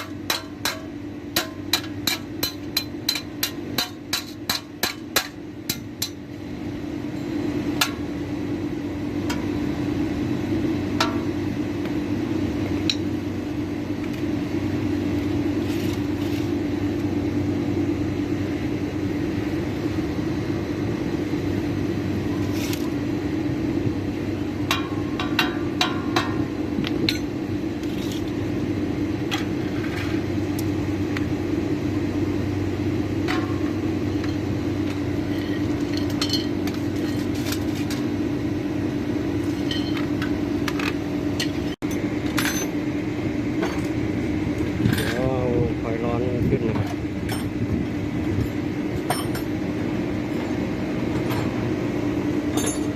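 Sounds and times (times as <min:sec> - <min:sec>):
steady mechanical hum: 0:00.0 - 0:52.9.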